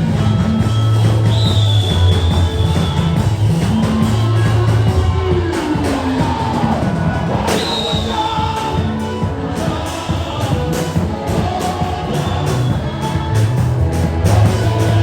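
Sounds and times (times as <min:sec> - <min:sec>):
bass notes: 0:00.0 - 0:15.0.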